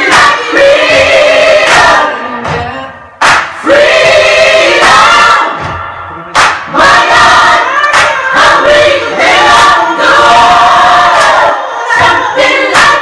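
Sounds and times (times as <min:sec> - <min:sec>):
choir singing in harmony: 0:00.0 - 0:02.5, 0:03.6 - 0:06.1, 0:06.7 - 0:13.0.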